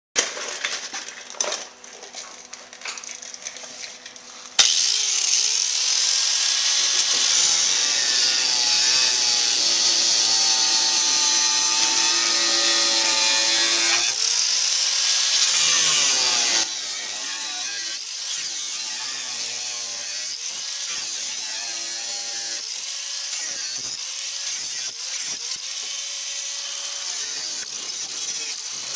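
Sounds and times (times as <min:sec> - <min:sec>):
angle grinder grinding steel: 0:03.6 - 0:28.9.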